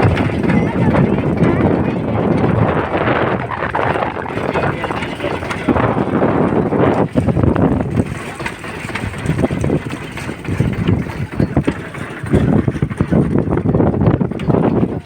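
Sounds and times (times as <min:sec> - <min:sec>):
boat engine rumbling: 0:00.0 - 0:15.0
wind buffeting microphone: 0:00.0 - 0:15.0.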